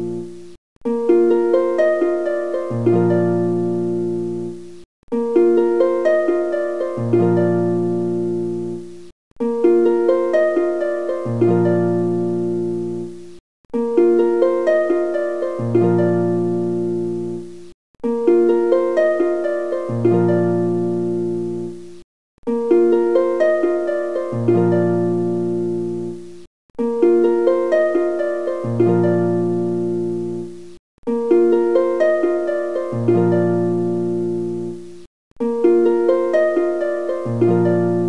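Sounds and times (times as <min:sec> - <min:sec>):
plucked string music: 0:00.0 - 0:38.0.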